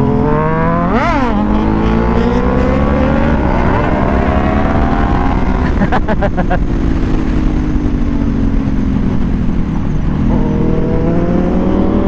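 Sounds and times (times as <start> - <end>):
motorcycle engine accelerating: 0.0 - 12.0
motorcycle revving: 0.0 - 12.0.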